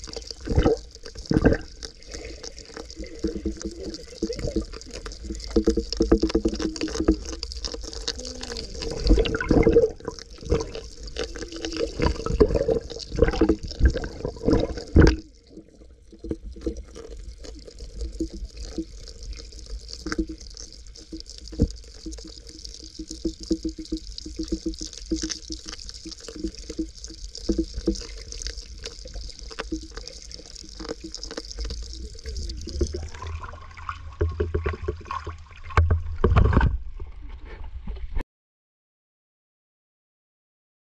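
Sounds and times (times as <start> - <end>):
underwater bubbling and hiss: 0.0 - 35.8
underwater knocks and thumps: 0.0 - 38.2
underwater sloshing and gurgling: 0.0 - 38.2.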